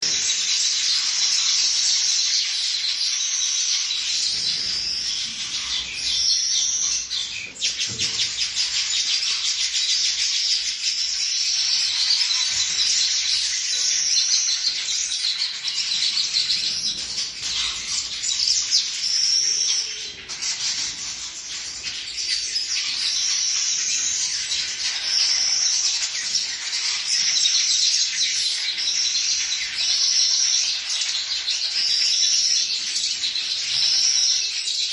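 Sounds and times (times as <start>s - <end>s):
birds chattering: 0.0s - 34.9s.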